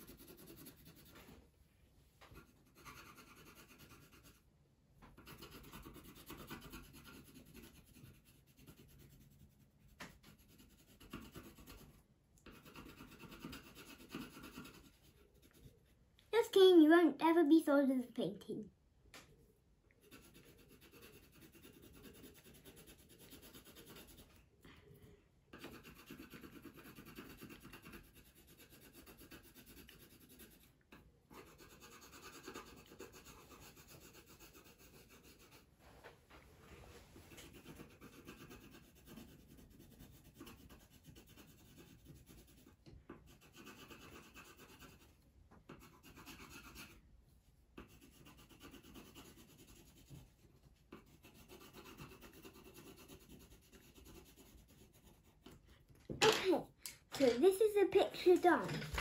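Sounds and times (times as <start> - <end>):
pencil shading on paper: 0.0 - 1.4, 2.3 - 4.5, 5.2 - 16.0, 20.0 - 24.5, 25.5 - 35.7, 37.3 - 55.8.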